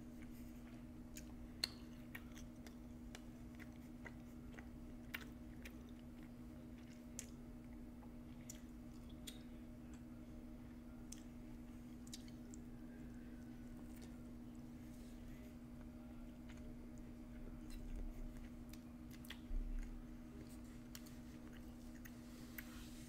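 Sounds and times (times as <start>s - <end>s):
close chewing: 0.2s - 10.0s, 10.6s - 12.7s, 13.4s - 14.3s, 15.8s - 23.0s.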